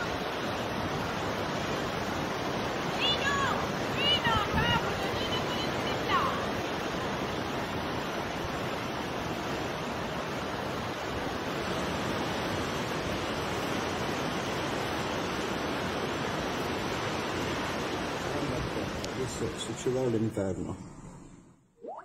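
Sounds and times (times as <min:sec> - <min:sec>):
wind buffeting microphone: 0:00.0 - 0:19.6
storm wind: 0:00.0 - 0:21.4
rough sea: 0:00.0 - 0:22.0.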